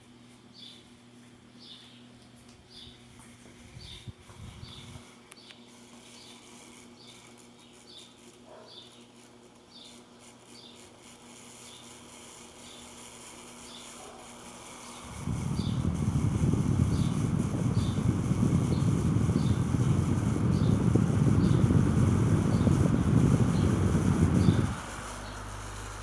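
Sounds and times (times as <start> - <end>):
fan motor humming: 0.0 - 26.0.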